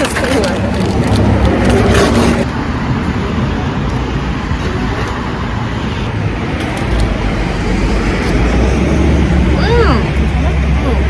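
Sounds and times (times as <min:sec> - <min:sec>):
vehicle road noise: 0:00.0 - 0:11.0.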